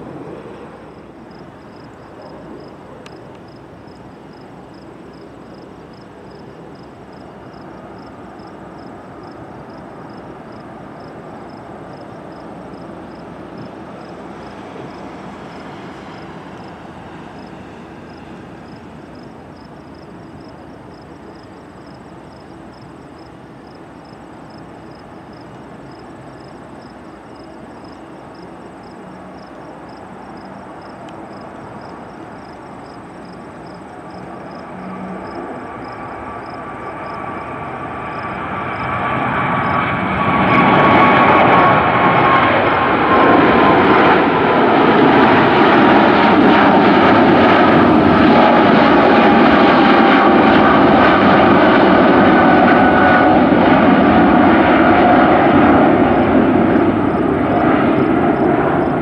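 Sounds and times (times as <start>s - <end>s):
distant jet engine rumble: 0.0s - 59.0s
insects chirping: 0.1s - 54.8s, 55.5s - 59.0s.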